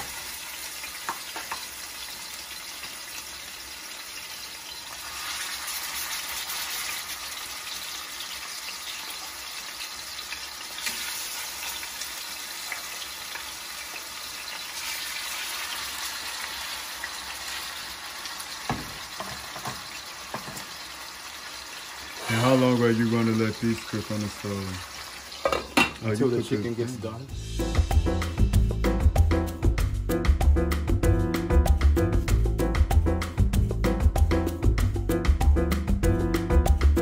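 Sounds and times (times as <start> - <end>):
chicken sizzling in oil: 0.0 - 30.4.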